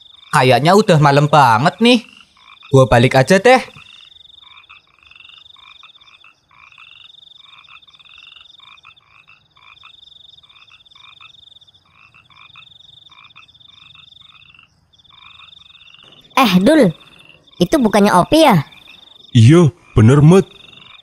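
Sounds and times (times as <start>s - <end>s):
frogs croaking: 0.0s - 21.0s.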